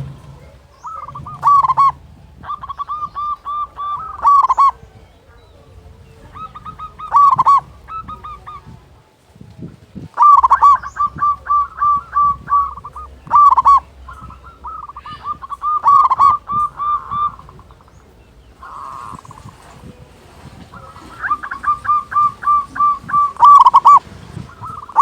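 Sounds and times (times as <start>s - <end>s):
dove cooing: 0.0s - 9.0s, 9.6s - 25.0s.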